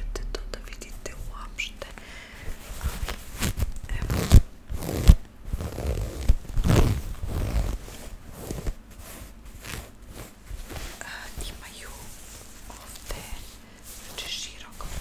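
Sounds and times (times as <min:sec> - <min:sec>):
fabric rustling and scratching: 0:02.4 - 0:15.0.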